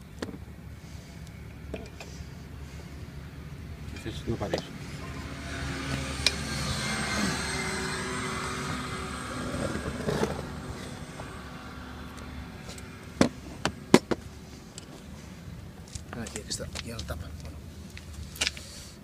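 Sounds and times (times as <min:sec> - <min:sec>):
motor hum: 0:00.3 - 0:15.9.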